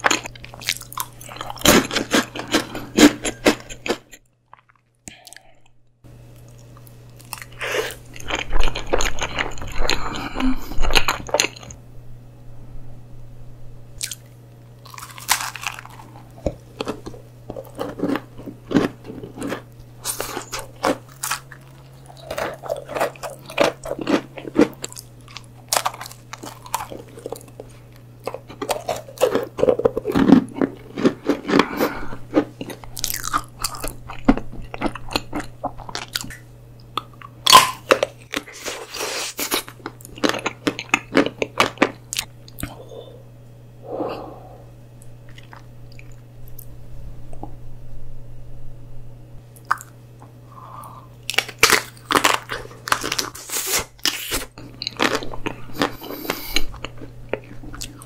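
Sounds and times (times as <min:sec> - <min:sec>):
crunching and chewing chocolate: 0:00.0 - 0:11.8, 0:14.0 - 0:43.1, 0:45.2 - 0:46.7, 0:49.5 - 0:58.0.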